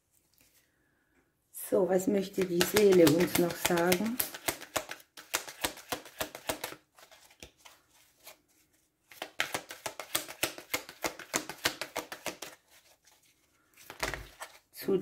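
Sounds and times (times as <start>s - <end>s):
cards being shuffled: 2.3s - 14.7s.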